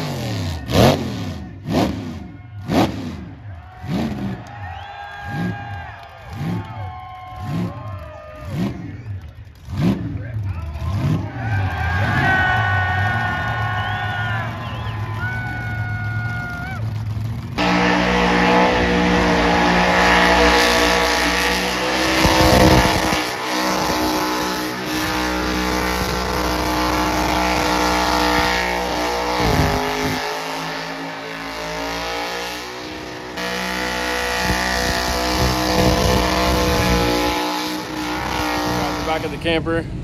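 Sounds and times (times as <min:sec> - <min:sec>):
car engine at high revs: 0:00.0 - 0:04.5, 0:08.4 - 0:15.8, 0:16.7 - 0:40.0
tires spinning on pavement: 0:00.0 - 0:40.0.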